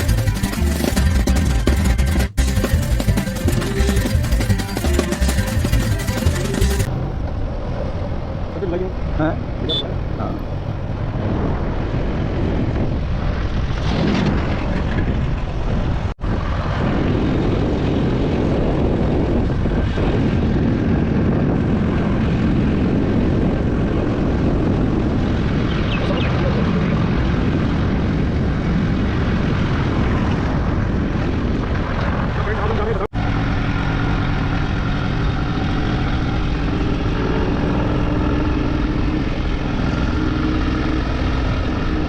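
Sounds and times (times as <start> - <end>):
engine and road rumble: 0.0 - 42.0
wind rushing over microphone: 6.8 - 42.0.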